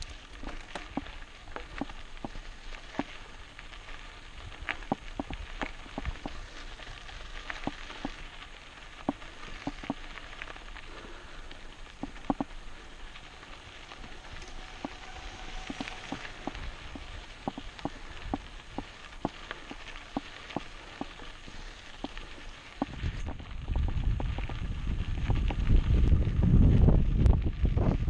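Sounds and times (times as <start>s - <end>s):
bike tyres hissing: 0.0s - 28.0s
wind: 0.0s - 28.0s.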